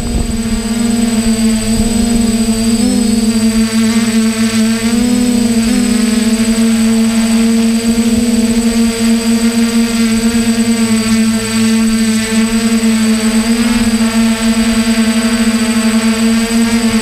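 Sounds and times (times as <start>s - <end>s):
drone motors and propellers humming: 0.0s - 17.0s.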